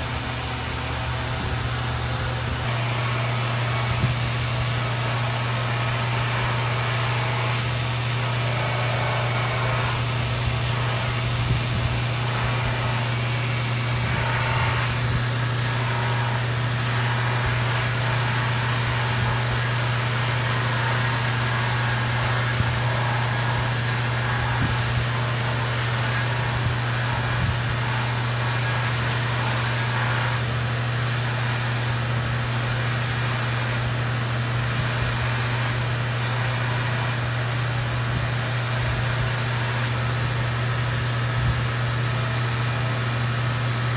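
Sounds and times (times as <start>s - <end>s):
sharpening machine motor humming: 0.0s - 43.9s.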